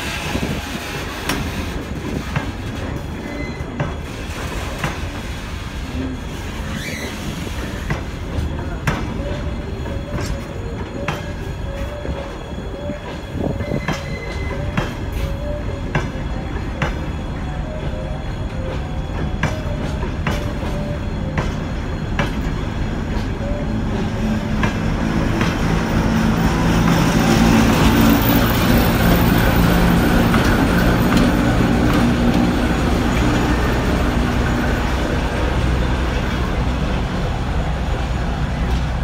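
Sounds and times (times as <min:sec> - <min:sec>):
diesel locomotive engine running: 0:00.0 - 0:39.0.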